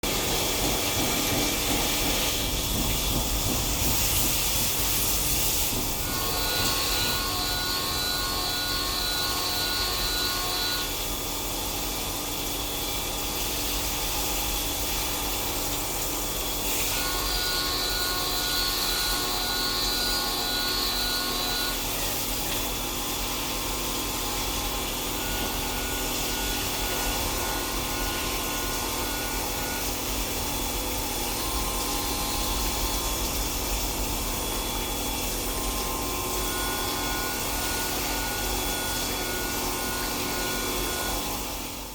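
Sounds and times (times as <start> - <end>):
cnc machine cutting metal: 0.0 - 41.9.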